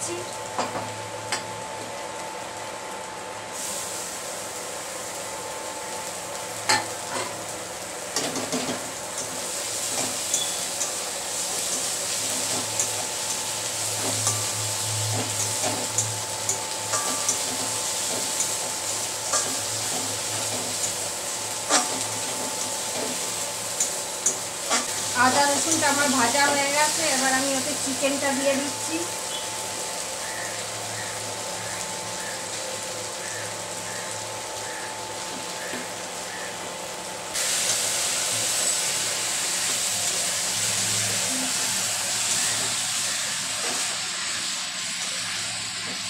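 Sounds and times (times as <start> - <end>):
vegetables sizzling in hot oil: 0.0 - 46.0.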